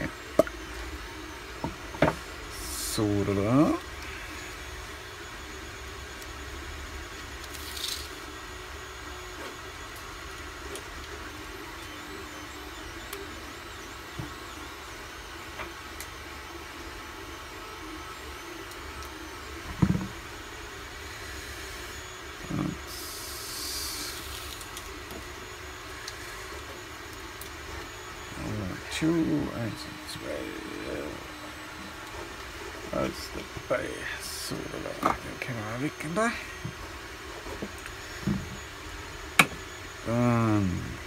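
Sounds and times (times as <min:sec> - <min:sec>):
room hum: 0:00.0 - 0:41.0.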